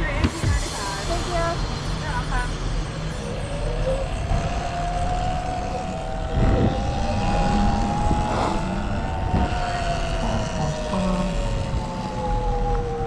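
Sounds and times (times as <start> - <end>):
wind rumble: 0.0 - 13.0
electric motorbike motor whining: 0.9 - 13.0.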